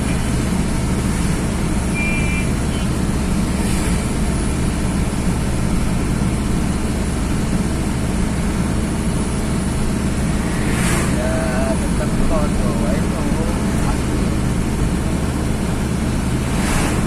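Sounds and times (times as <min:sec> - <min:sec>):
truck engine running: 0:00.0 - 0:17.0
tyre and road noise: 0:00.0 - 0:17.0.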